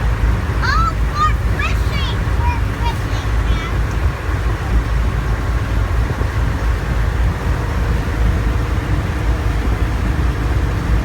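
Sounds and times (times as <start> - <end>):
boat engine rumbling: 0.0 - 11.0
rushing wind: 0.0 - 11.0
water noise: 0.0 - 11.0.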